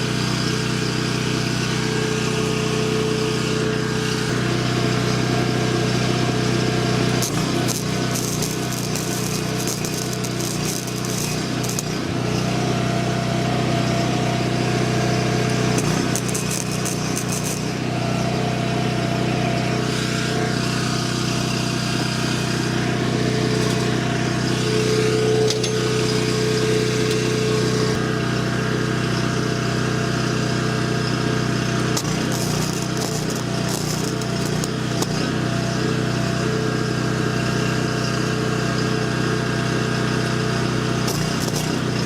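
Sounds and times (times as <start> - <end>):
portable generator engine running: 0.0 - 42.0.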